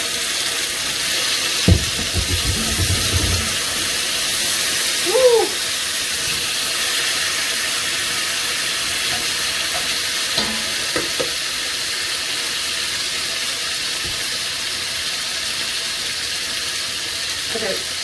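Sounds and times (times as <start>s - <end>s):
meat and onions sizzling: 0.0s - 18.0s.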